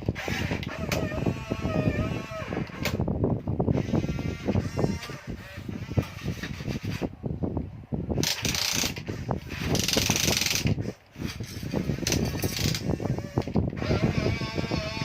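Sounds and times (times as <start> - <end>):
gears clicking and ratcheting: 0.0 - 3.0, 3.7 - 7.1, 8.2 - 15.0
high motor whirring: 0.0 - 3.1, 3.7 - 7.1, 8.2 - 15.0.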